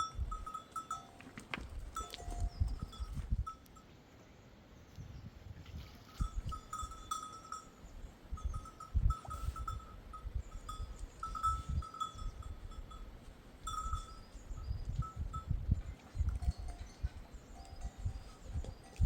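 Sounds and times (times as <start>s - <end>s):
animal bells clinking: 0.0s - 3.9s, 6.0s - 19.0s.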